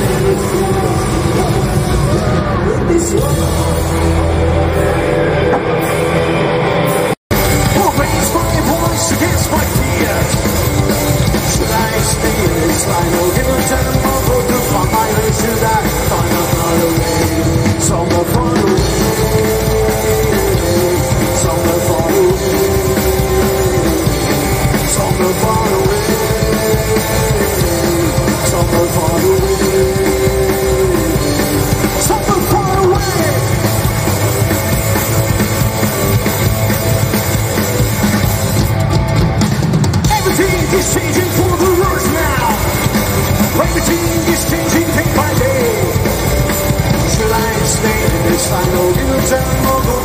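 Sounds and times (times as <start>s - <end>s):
rockabilly band playing: 0.0s - 50.0s.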